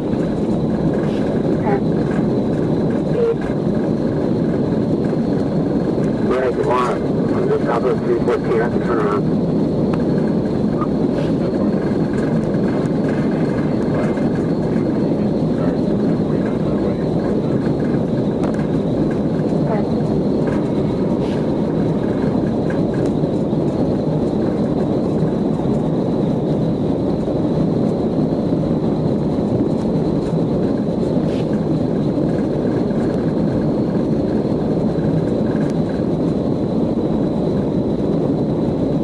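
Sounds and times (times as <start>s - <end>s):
faint high whine: 0.0s - 39.0s
vehicle cabin engine drone: 0.0s - 39.0s.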